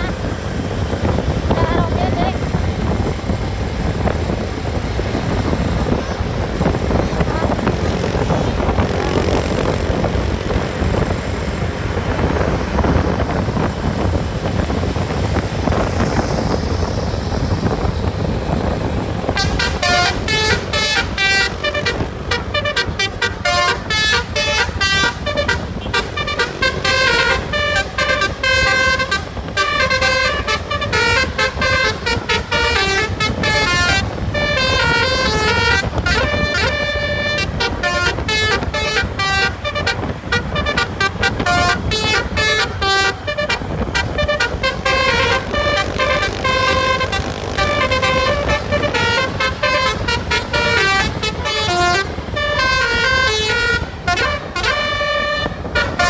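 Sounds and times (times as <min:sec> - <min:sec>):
bus engine and road rumble: 0:00.0 - 0:56.0
multi-tone bus horn tune: 0:00.0 - 0:56.0.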